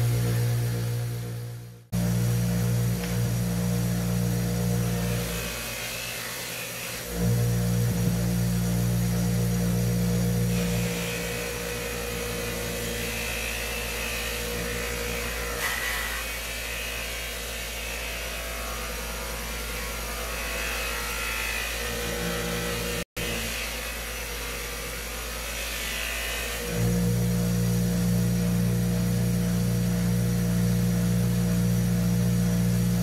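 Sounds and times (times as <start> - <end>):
bench grinder motor hum: 0.0 - 33.0.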